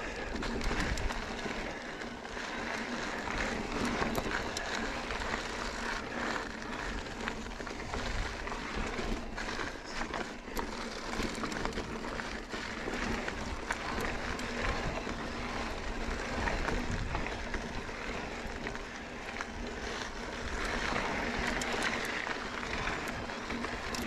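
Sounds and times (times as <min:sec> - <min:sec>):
bike tyres crunching over gravel: 0:00.0 - 0:24.0
stones and bike clicking and rattling: 0:00.0 - 0:24.0.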